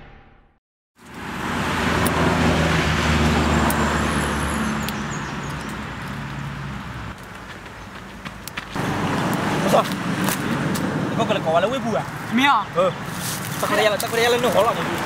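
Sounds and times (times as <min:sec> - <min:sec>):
road noise: 0:01.0 - 0:15.0
vehicle engine humming: 0:01.0 - 0:15.0.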